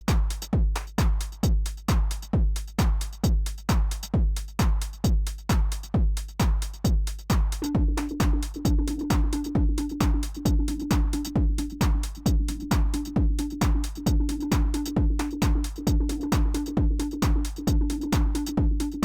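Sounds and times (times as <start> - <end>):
steady kick drum: 0.0 - 19.0.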